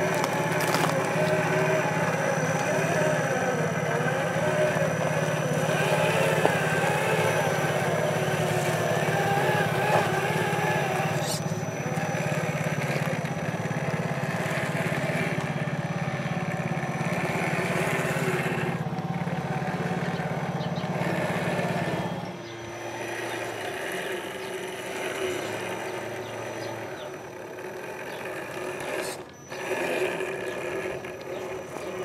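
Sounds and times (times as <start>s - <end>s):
rc car motor whining: 0.0s - 32.0s.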